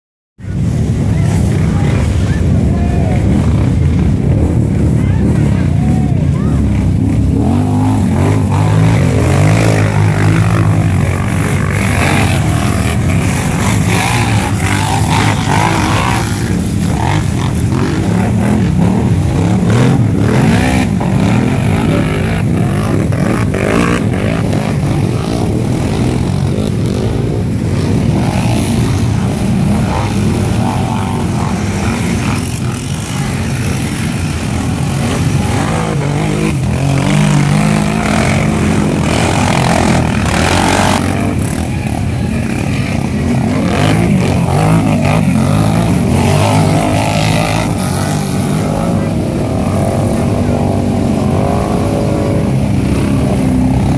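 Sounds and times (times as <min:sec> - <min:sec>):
quad bike engines revving: 0:00.4 - 0:53.9
mud and water splashing: 0:06.9 - 0:53.9.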